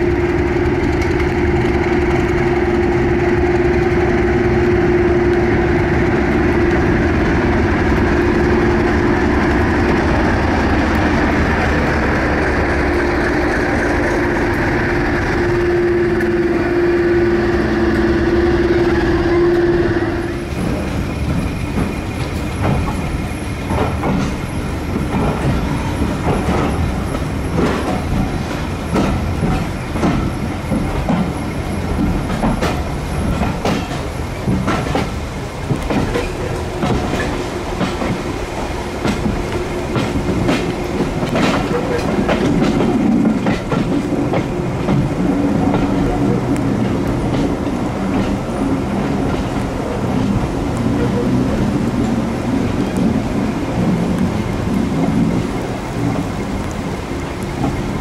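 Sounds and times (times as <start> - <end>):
diesel locomotive engine: 0.0 - 58.0
train wheels clattering: 0.0 - 58.0.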